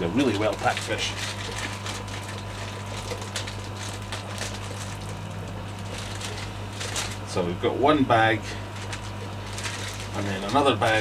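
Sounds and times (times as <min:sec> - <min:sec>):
steady low hum: 0:00.0 - 0:11.0
plastic bag crinkling: 0:00.2 - 0:07.3, 0:08.7 - 0:11.0.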